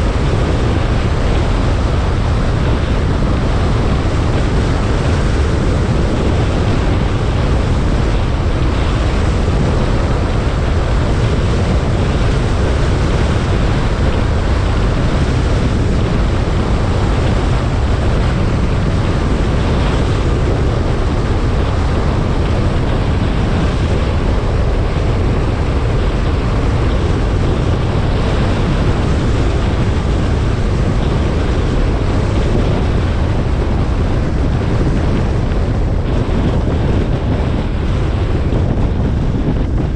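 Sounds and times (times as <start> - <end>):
car road noise: 0.0 - 39.9
wind buffeting microphone: 0.0 - 39.9.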